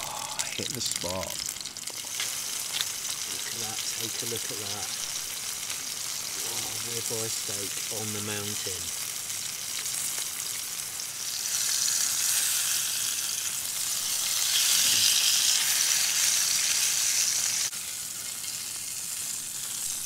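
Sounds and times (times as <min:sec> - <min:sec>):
steak sizzling in oil: 0:00.0 - 0:20.0.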